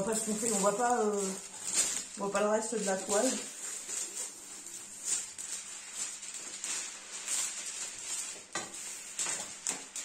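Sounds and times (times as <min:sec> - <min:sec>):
crinkling of sheets being handled: 0:00.0 - 0:10.0.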